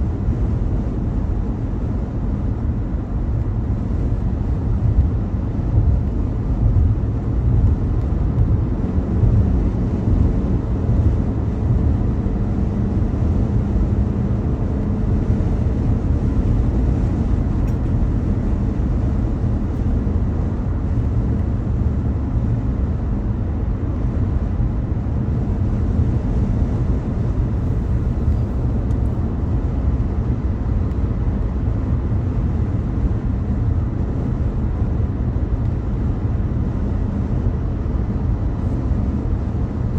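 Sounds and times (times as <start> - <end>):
faint engine hum: 0.0 - 39.9
road and engine rumble: 0.0 - 39.9.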